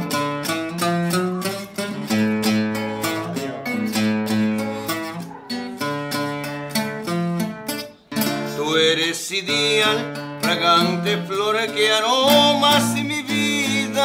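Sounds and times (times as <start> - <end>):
solo acoustic guitar plucking: 0.0 - 14.0.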